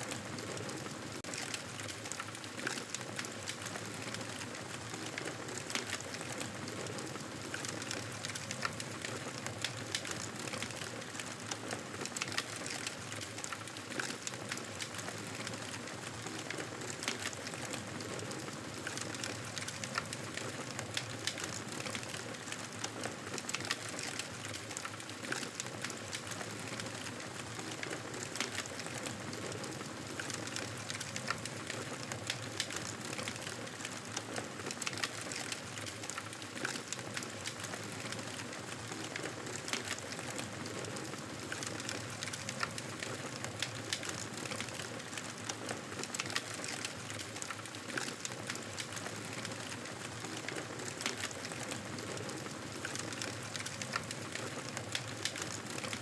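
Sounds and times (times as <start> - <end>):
campfire crackling and popping: 7.4 - 56.0.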